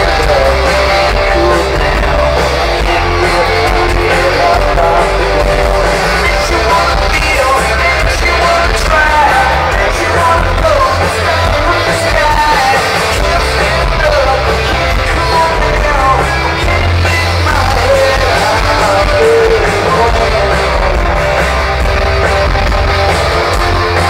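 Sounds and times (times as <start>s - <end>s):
lead vocal singing: 0.0s - 22.2s
live rock band playing: 0.0s - 24.0s.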